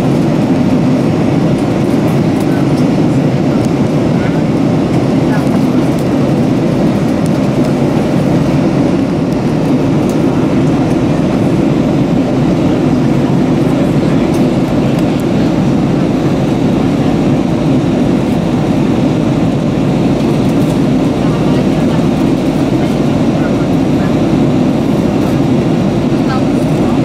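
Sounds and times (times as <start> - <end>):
engine rumble: 0.0 - 27.0.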